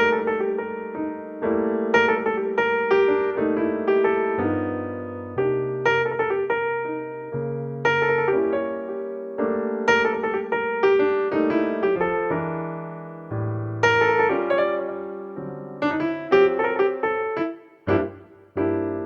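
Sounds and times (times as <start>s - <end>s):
solo piano: 0.0s - 19.0s.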